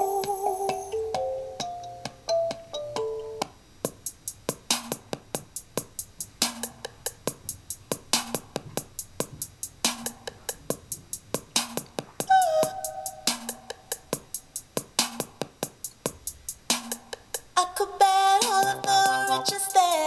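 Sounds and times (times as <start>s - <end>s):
electronic music with drum-machine beat: 3.4s - 20.0s.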